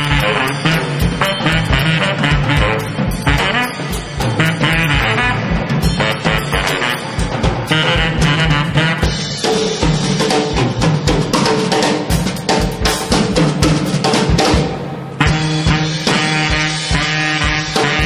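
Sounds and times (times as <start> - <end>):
held pitched notes: 0.0 - 18.0
jazz drum kit playing: 0.0 - 18.0.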